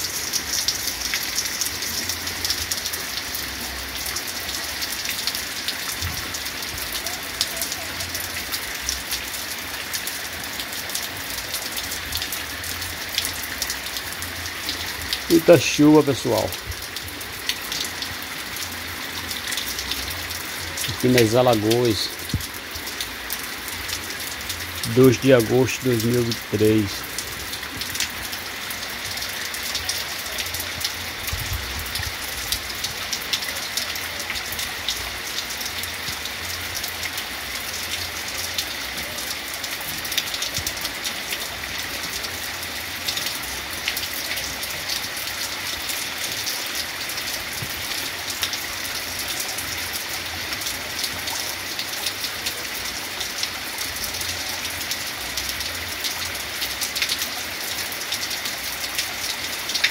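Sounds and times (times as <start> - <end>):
heavy rain hiss: 0.0 - 59.9
raindrops ticking: 0.0 - 59.9.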